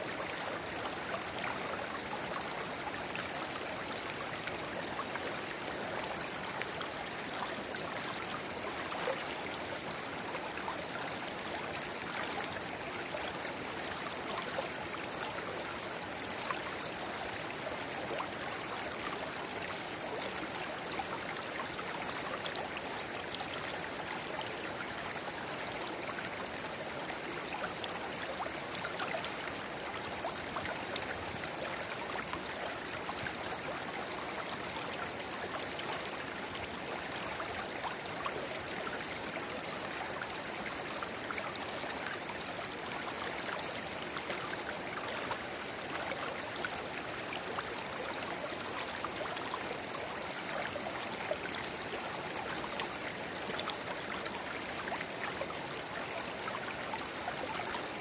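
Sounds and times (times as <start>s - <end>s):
river water babbling over stones: 0.2s - 58.0s.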